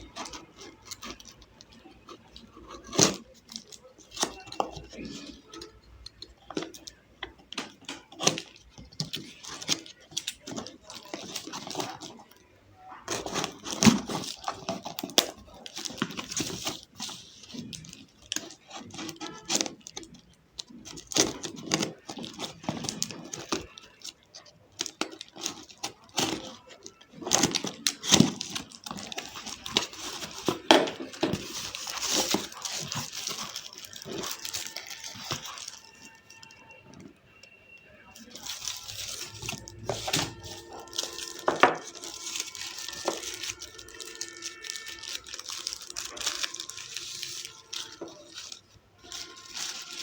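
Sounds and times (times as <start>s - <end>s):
plastic and paper crinkling: 0.0s - 50.0s.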